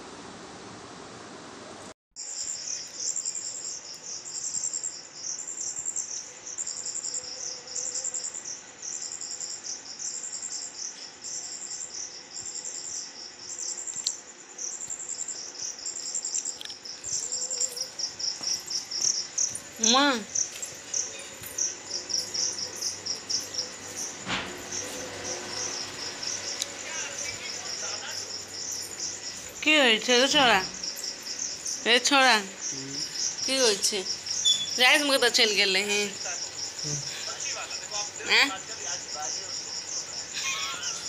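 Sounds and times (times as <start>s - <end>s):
insects chirping trills: 2.2s - 41.0s.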